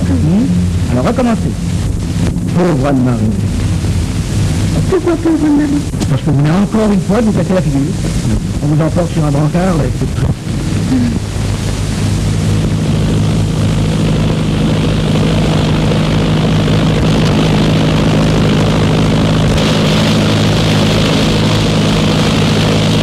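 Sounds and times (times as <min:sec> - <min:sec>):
old film soundtrack hiss: 0:00.0 - 0:23.0
propeller plane engine droning: 0:00.0 - 0:23.0.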